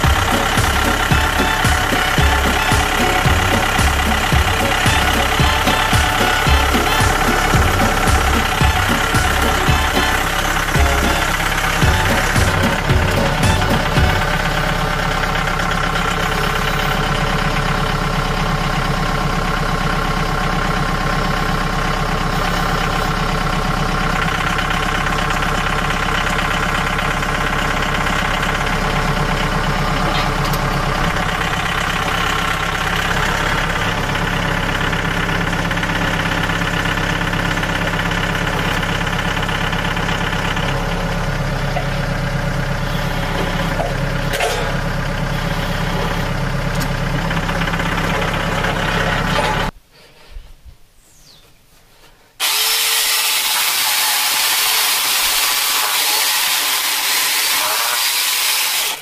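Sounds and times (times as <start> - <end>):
sawmill gas engine running: 0.0 - 49.8, 52.4 - 59.0.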